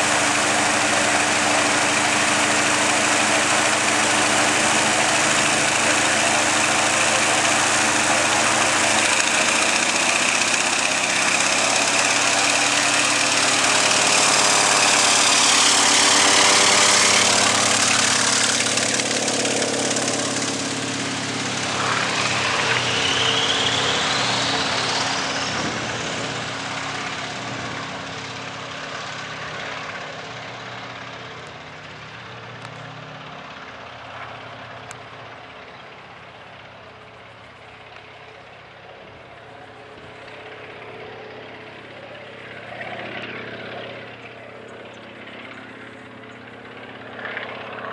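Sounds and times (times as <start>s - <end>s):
propeller plane engine roaring: 0.0s - 47.9s.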